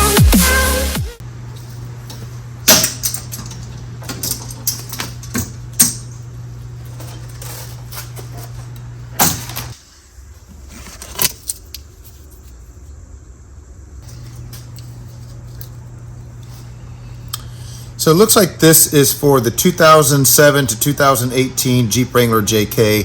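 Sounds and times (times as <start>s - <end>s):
steady low hum: 0.1s - 23.0s.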